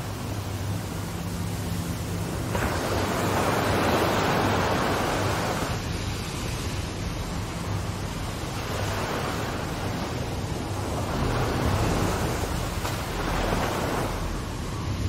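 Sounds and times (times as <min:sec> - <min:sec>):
ocean wave rushing: 0:00.0 - 0:15.0.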